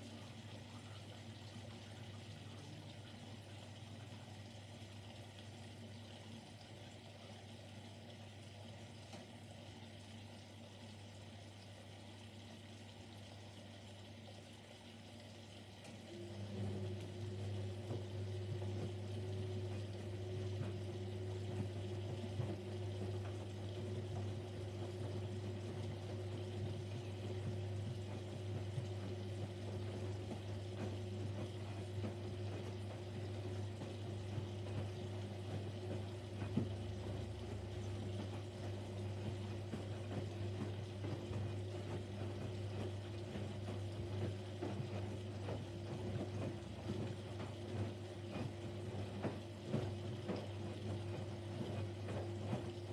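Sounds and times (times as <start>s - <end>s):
washing machine humming: 0.0s - 52.9s.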